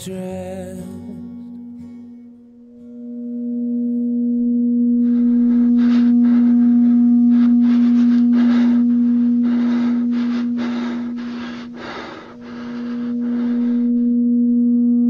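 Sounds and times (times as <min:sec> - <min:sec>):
low drone tone: 0:00.0 - 0:15.0.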